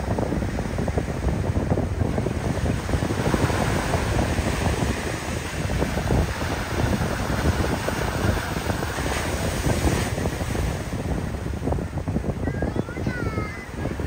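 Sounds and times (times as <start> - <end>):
waves washing onto rocky shore: 0.0 - 14.0
wind gusting on microphone: 0.0 - 14.0.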